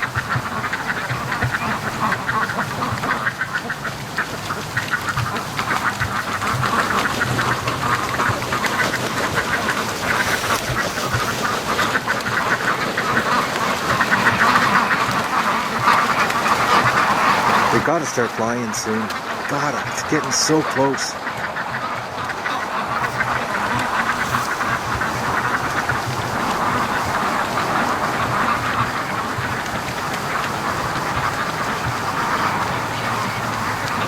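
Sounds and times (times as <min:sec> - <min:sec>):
ducks quacking: 0:00.0 - 0:34.0.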